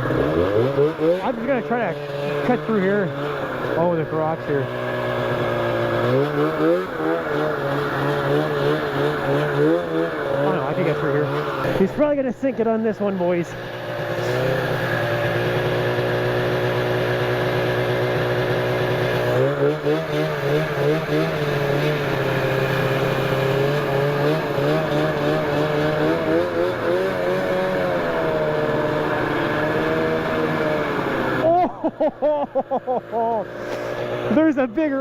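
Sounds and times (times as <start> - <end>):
snowmobile engine revving high: 0.0 - 35.0.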